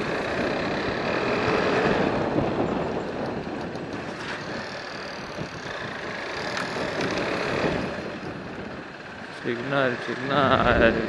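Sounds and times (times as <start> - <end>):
motorcycle engine: 0.0 - 11.0
wind rushing over microphone: 0.0 - 11.0.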